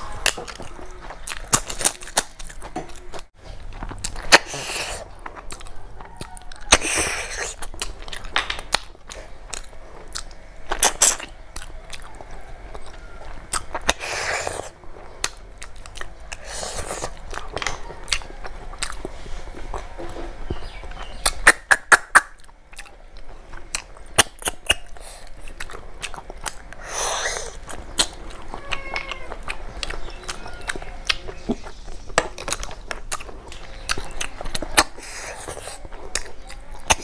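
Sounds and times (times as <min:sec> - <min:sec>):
wet chewing and lip smacking: 0:00.0 - 0:37.0.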